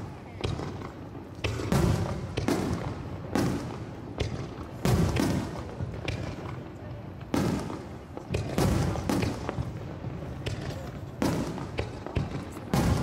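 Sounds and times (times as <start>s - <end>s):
firework shells booming: 0.0s - 13.0s.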